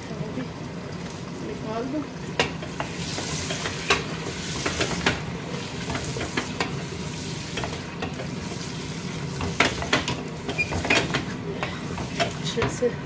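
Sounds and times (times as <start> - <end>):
chicken sizzling in hot oil: 0.1 - 13.0.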